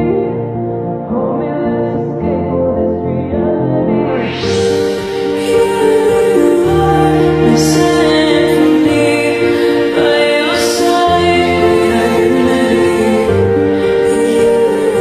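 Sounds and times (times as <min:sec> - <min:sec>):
person singing: 0:00.0 - 0:15.0
slow chords over bass line: 0:01.8 - 0:15.0.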